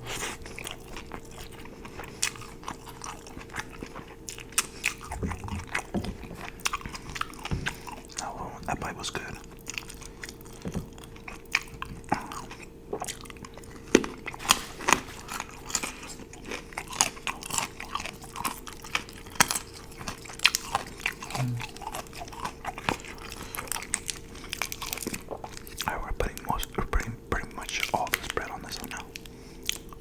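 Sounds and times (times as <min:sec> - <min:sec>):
chewing food crunches: 0:00.1 - 0:30.0.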